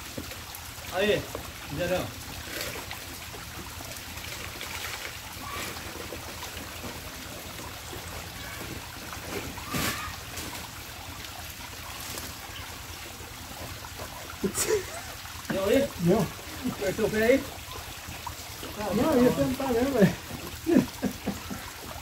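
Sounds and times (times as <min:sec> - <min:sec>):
water trickling over rock: 0:00.0 - 0:22.0.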